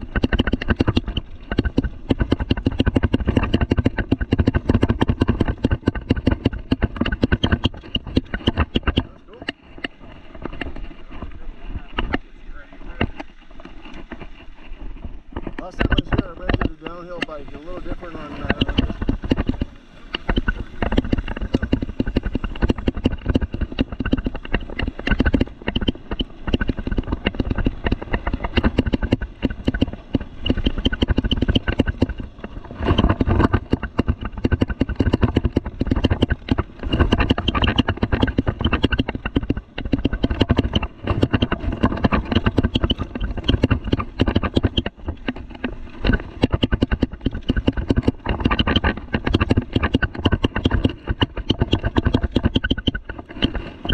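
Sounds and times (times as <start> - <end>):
mountain bike rattling over dirt trail: 0.0 - 53.9.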